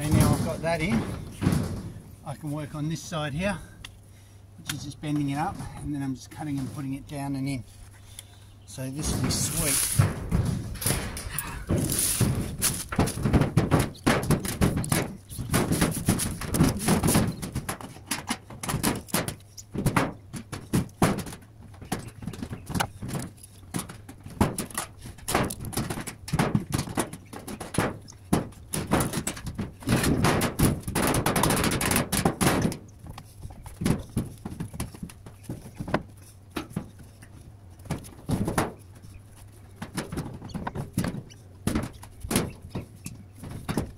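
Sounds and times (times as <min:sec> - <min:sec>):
sheet metal knocks and scrapes: 0:00.0 - 0:02.1, 0:08.9 - 0:43.9.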